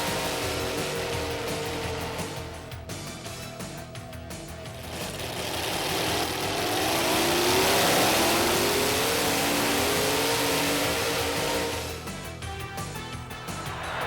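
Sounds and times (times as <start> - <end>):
vehicle engine revving: 0.0 - 12.5.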